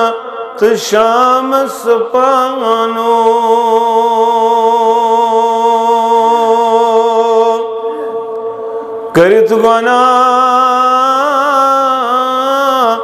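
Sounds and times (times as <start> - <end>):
man chanting a long note: 0.0 - 13.0.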